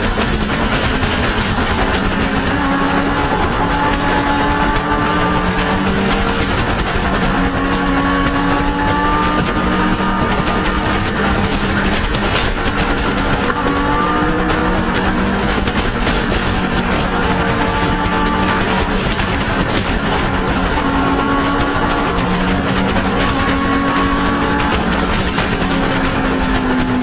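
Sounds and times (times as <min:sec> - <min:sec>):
motorcycle engine running: 0:00.0 - 0:27.0
steady rushing noise: 0:00.0 - 0:27.0.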